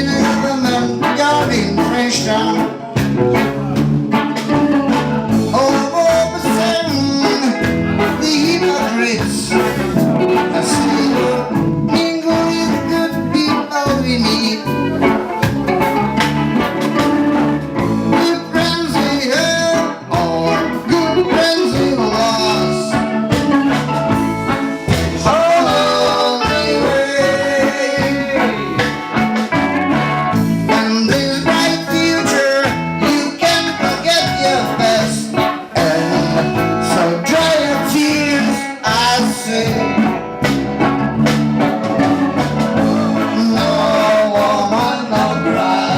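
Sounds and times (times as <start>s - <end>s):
person singing: 0.0s - 16.0s, 17.8s - 29.2s, 30.3s - 40.2s, 41.9s - 45.9s
reggae guitar: 0.0s - 45.9s
repeating bass line: 0.0s - 45.9s.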